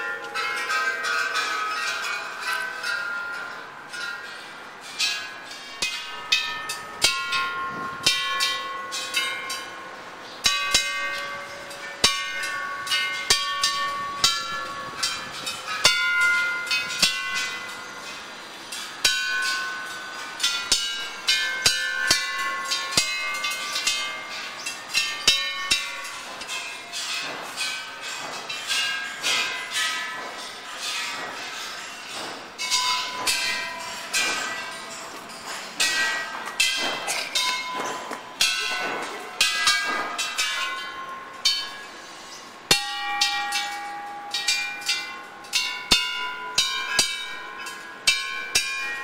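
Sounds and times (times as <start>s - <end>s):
metal bells ringing: 0.0s - 49.0s.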